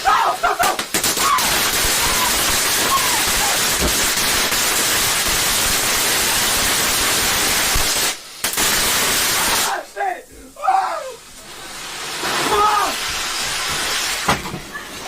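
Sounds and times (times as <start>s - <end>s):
firework fountain hissing: 0.0s - 15.0s.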